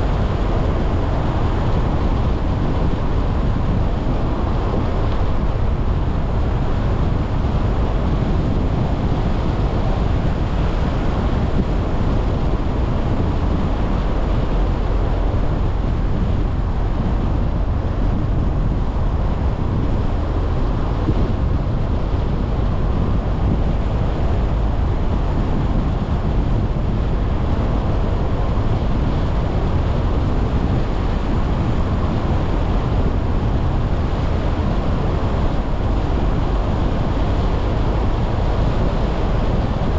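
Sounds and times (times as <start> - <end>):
car wind and road noise: 0.0 - 39.9.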